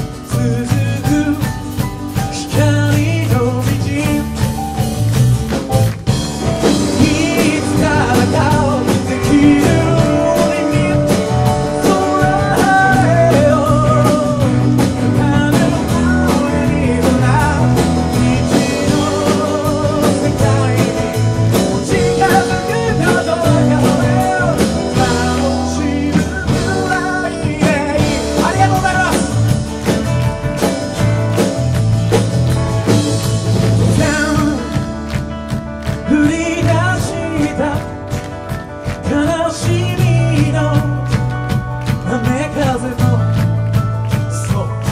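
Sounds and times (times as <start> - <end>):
man singing: 0.0 - 4.9, 6.6 - 30.2, 33.6 - 44.9
drums: 0.0 - 44.9
electric bass: 0.0 - 44.9
keyboard: 0.0 - 44.9.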